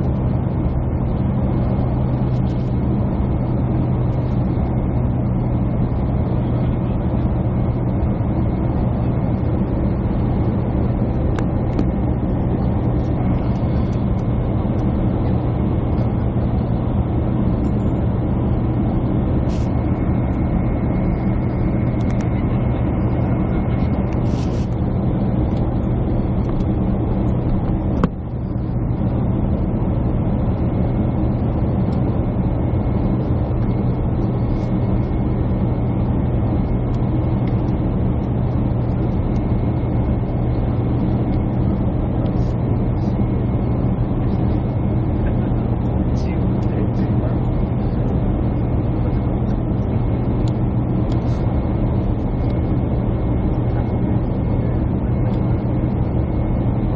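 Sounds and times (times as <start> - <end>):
airliner cabin drone: 0.0 - 56.9.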